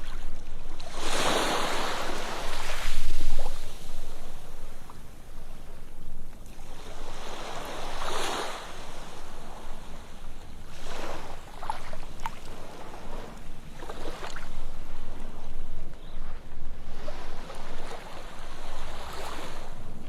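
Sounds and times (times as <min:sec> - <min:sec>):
ocean waves breaking on beach: 0:00.0 - 0:20.0
waves splashing: 0:00.0 - 0:20.0.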